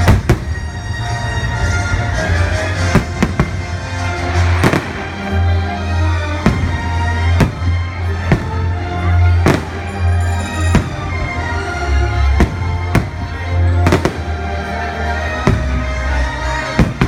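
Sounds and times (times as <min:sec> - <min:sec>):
orchestral music: 0:00.0 - 0:17.0.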